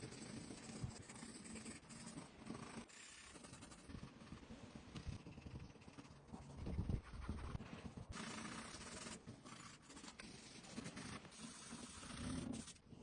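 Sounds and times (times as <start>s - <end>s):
pencil strokes scratching paper: 0.0s - 13.0s.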